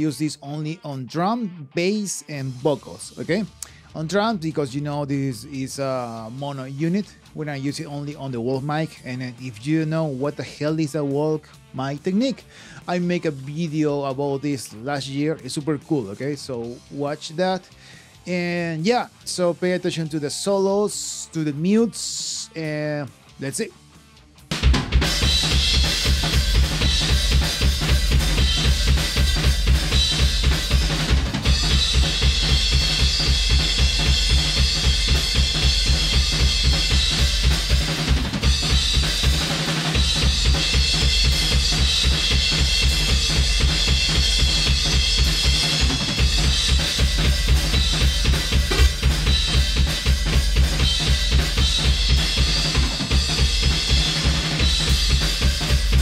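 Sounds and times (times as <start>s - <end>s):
drum kit playing a driving beat: 0.0s - 1.2s, 2.3s - 23.7s, 24.4s - 56.0s.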